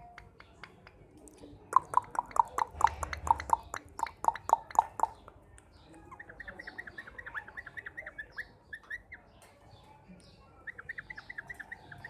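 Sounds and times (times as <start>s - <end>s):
parrot chirping softly: 0.0s - 12.0s.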